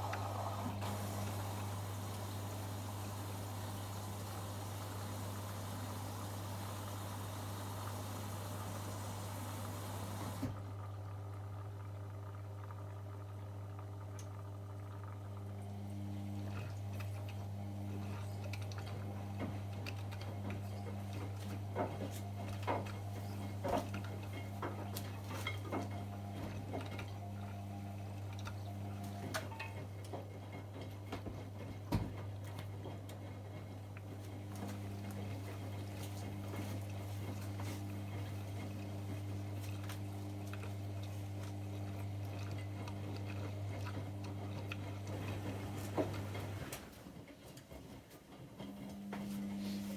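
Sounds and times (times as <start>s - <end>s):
water sloshing in washing machine: 0.0s - 10.6s, 15.4s - 49.9s
washing machine motor tone: 0.0s - 49.9s.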